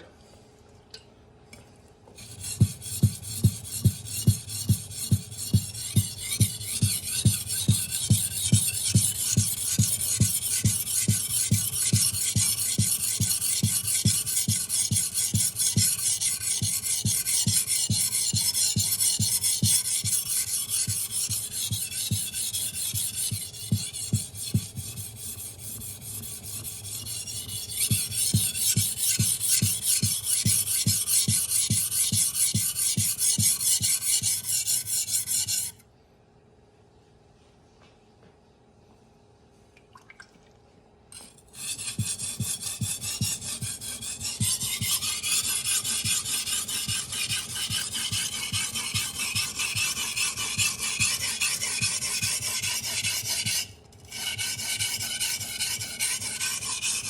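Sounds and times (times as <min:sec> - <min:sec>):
knife scraping on whetstone: 0:02.2 - 0:35.8, 0:41.2 - 0:57.0.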